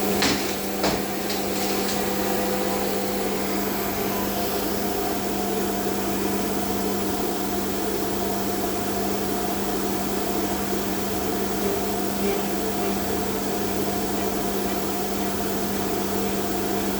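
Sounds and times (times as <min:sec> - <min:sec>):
cnc machine humming: 0:00.0 - 0:16.9.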